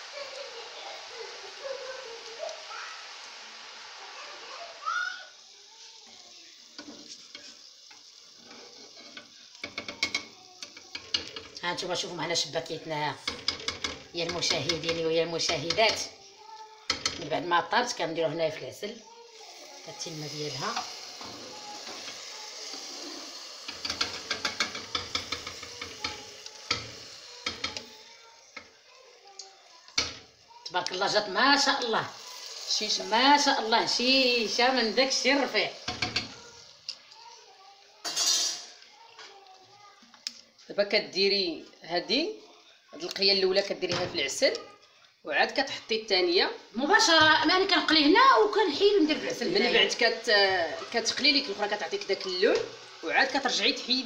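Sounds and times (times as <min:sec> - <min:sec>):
dough sizzling in hot oil: 0:00.0 - 0:54.0.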